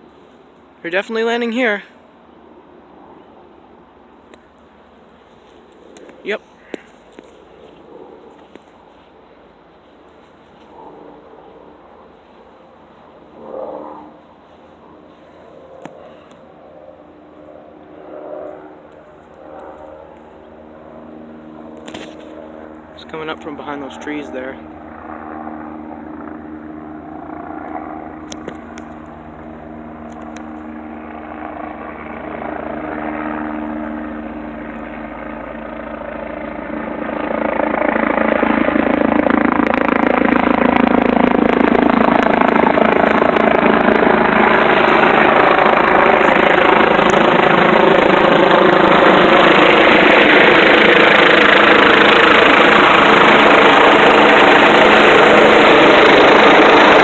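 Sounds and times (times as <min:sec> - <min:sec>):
helicopter rotor and turbine noise: 0:00.0 - 0:57.0.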